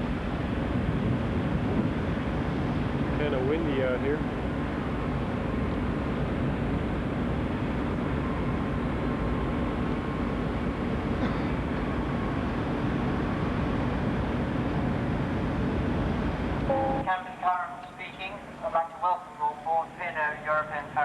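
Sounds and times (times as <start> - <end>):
wind buffeting microphone: 0.0 - 17.1
ship engine rumble: 0.0 - 21.0.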